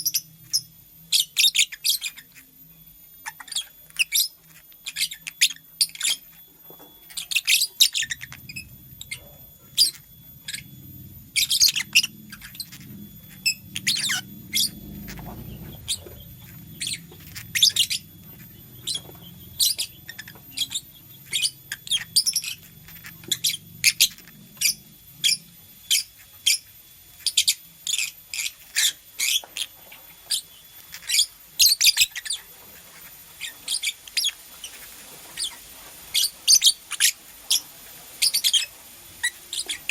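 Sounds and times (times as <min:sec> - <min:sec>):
lovebird chirping: 0:00.0 - 0:02.5, 0:03.1 - 0:39.9.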